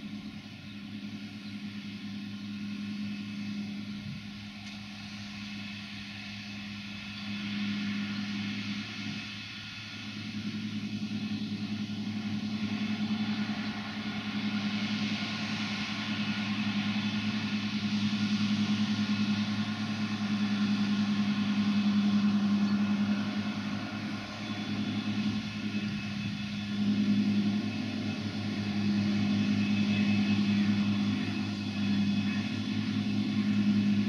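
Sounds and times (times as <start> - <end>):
diesel engine hum: 0.0 - 34.0
mower hissing whir: 3.3 - 34.0.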